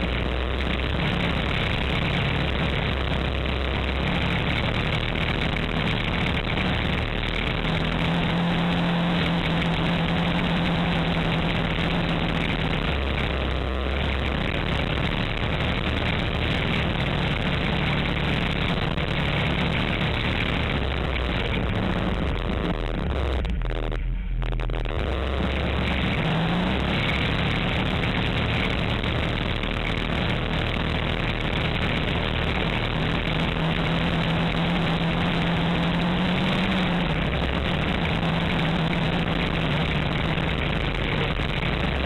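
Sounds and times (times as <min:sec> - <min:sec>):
engine running: 0:00.0 - 0:42.0
noisy rush: 0:00.0 - 0:42.0.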